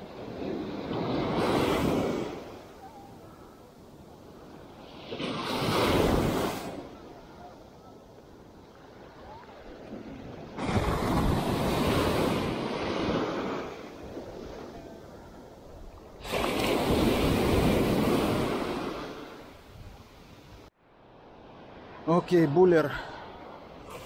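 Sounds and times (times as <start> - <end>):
waves breaking: 0.0 - 24.0.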